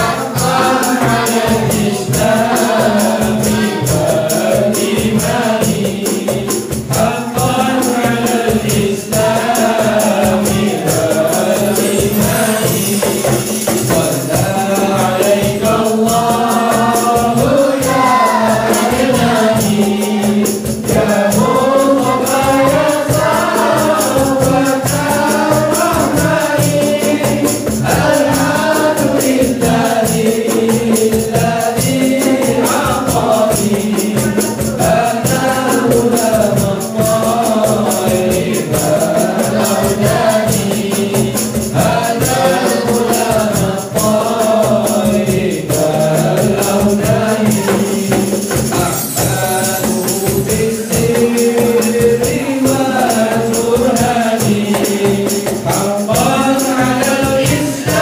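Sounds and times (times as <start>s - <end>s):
hand drums: 0.0s - 58.0s
jingling shaker: 0.0s - 58.0s
male group singing: 0.0s - 58.0s.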